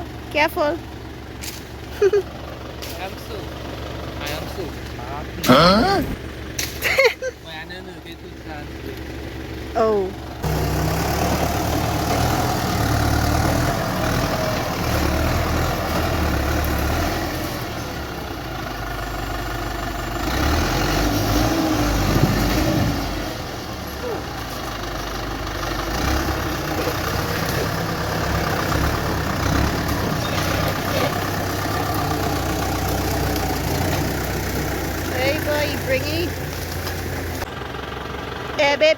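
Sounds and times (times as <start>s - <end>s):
tractor engine humming: 0.0s - 38.9s.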